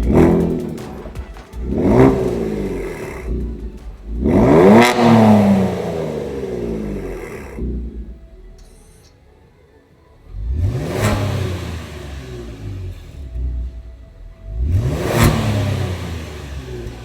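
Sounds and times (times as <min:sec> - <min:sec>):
car engine revving: 0:00.0 - 0:09.1, 0:10.2 - 0:17.0.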